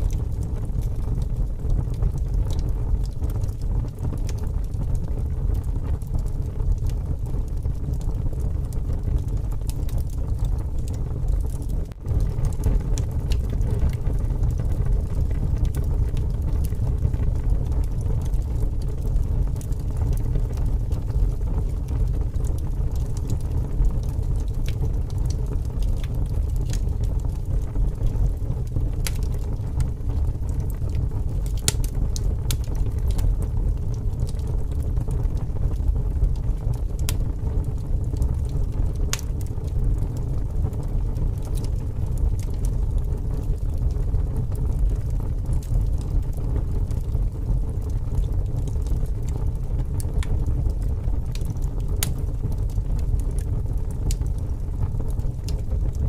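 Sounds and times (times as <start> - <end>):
strong wind rumble: 0.0 - 56.0
wood fire crackling and popping: 0.0 - 56.0.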